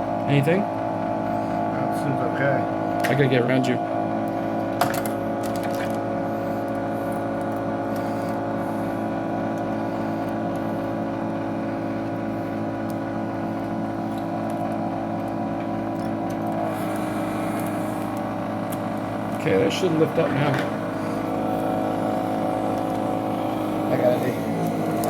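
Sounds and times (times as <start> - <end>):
vacuum pump hum: 0.0 - 25.0.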